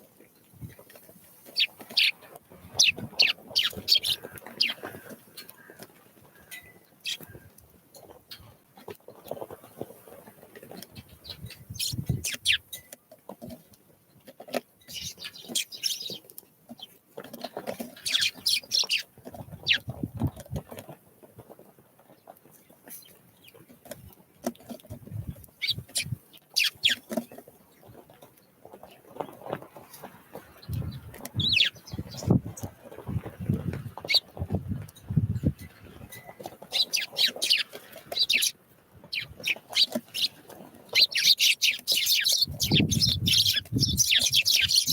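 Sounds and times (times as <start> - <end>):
small birds chirping: 0.6 - 12.9, 14.2 - 20.7, 25.1 - 44.9.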